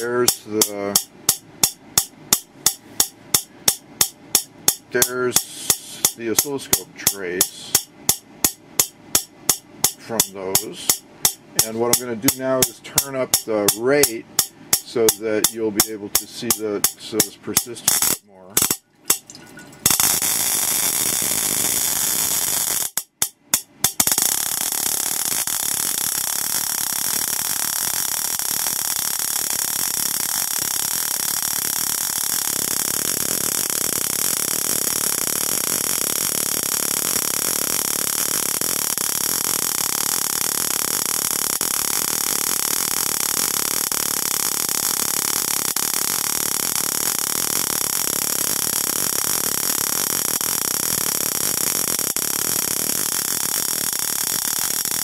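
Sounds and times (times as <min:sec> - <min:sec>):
spark gap crackling buzz: 0:00.0 - 0:55.0
steady high whine: 0:00.0 - 0:55.0.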